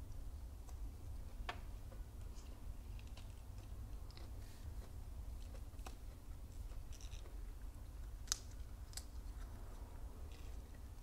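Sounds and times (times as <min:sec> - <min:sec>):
low steady hum: 0:00.0 - 0:11.0
petals clicking and crackling: 0:02.2 - 0:11.0.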